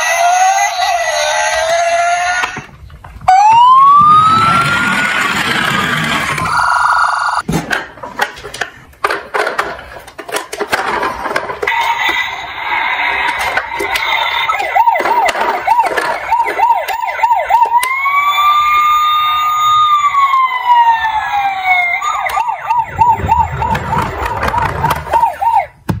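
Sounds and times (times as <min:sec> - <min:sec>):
electronic siren yelping and wailing: 0:00.0 - 0:02.6, 0:03.3 - 0:07.4, 0:11.7 - 0:25.8.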